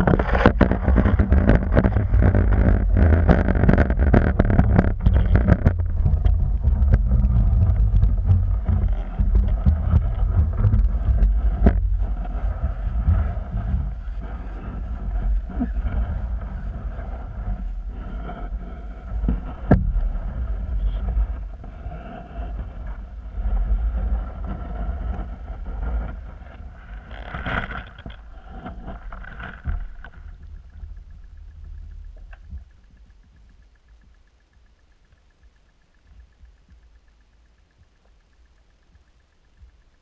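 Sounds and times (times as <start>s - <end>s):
faint steady hum: 0.0s - 40.0s
muffled underwater rumble: 0.0s - 40.0s.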